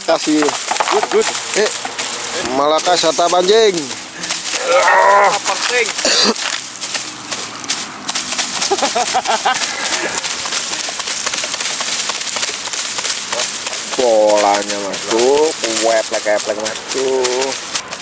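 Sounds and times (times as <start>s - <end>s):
dry grass rustling and crackling: 0.0s - 18.0s.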